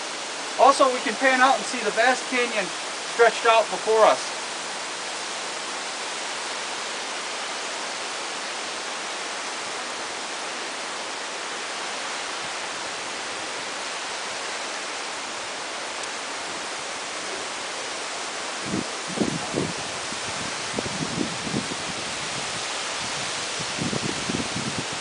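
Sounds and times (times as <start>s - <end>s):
waterfall crashing onto rocks: 0.0s - 25.0s.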